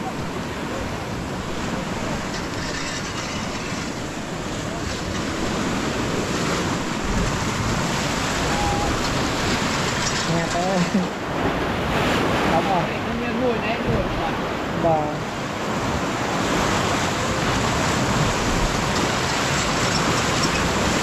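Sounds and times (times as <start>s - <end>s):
wind buffeting microphone: 0.0s - 12.8s, 13.7s - 21.0s
floodwater moving: 0.0s - 21.0s.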